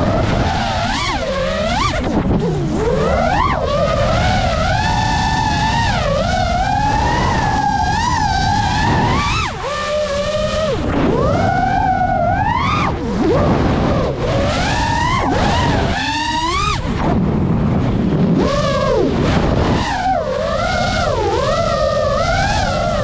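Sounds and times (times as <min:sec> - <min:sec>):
drone motors whining: 0:00.0 - 0:23.0
wind and propeller wash: 0:00.0 - 0:23.0.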